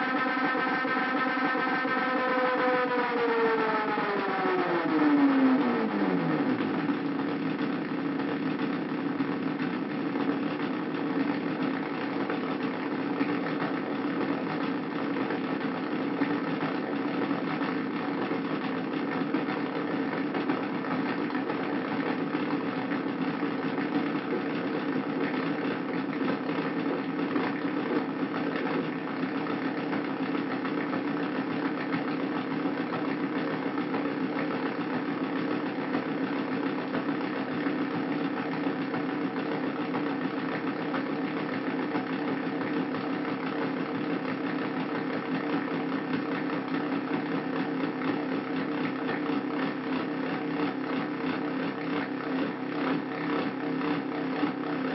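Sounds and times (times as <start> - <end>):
buzzing synthesizer drone: 0.0 - 47.4.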